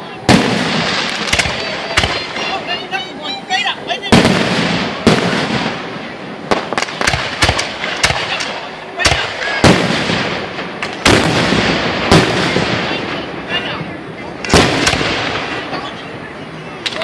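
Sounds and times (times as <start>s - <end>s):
fireworks booms echoing: 0.0s - 2.7s, 4.0s - 13.5s, 14.4s - 16.0s
fireworks bangs and crackles: 0.0s - 3.0s, 3.8s - 16.2s.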